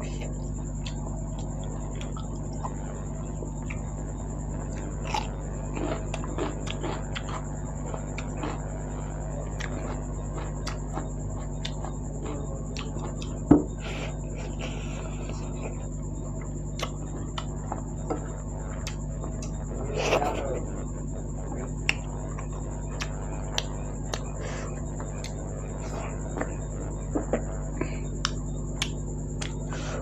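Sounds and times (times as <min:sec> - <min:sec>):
steady electrical hum: 0:00.0 - 0:30.0
chewing and wet mouth sounds: 0:00.1 - 0:03.0, 0:03.6 - 0:17.9, 0:18.7 - 0:20.2, 0:21.6 - 0:27.5, 0:28.1 - 0:29.9.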